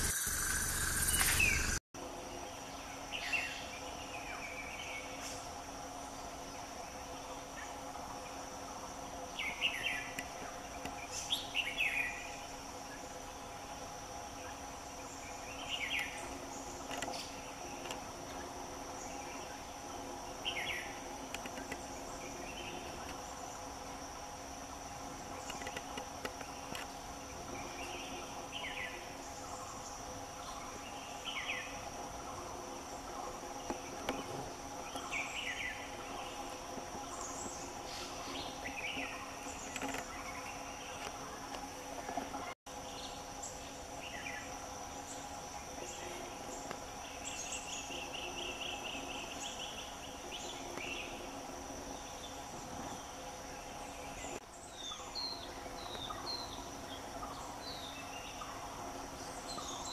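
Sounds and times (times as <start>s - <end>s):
insects droning with high whine: 0.0s - 59.9s.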